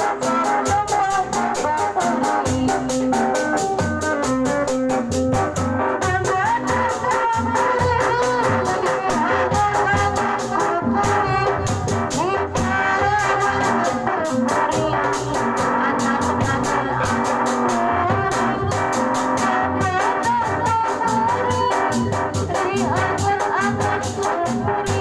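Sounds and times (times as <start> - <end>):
drums beating fast: 0.0 - 25.0.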